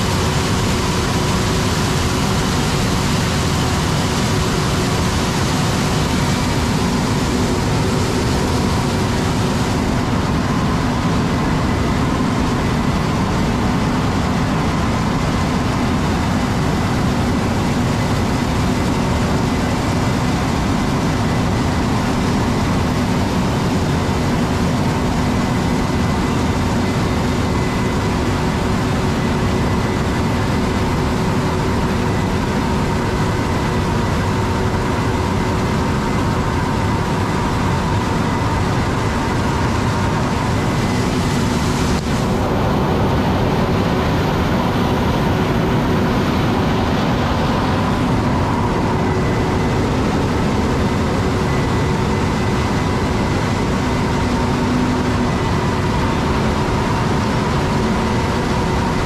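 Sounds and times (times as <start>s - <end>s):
combine and tractor droning: 0.0s - 59.0s.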